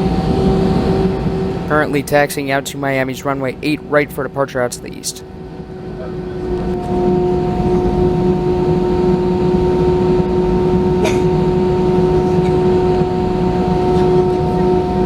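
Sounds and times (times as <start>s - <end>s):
jet engines whining in cabin: 0.0s - 15.0s.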